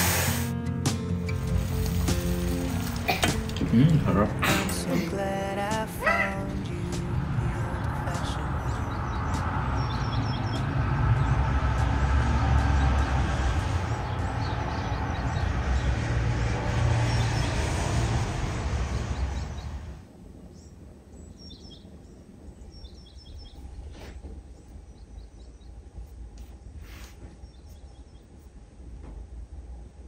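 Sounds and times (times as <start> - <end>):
rain rushing: 0.0 - 27.0
birds chirping: 2.3 - 18.1, 18.9 - 28.5.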